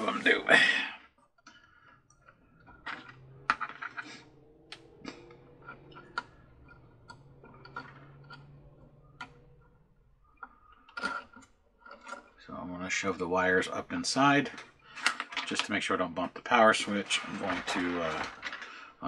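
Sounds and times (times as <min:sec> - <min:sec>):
plastic parts clicking: 0:01.4 - 0:09.8, 0:10.4 - 0:12.4, 0:13.0 - 0:19.0.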